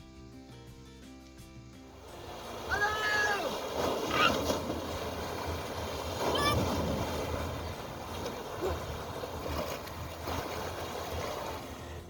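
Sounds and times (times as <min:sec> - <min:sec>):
water rushing and splashing: 0:02.0 - 0:12.0.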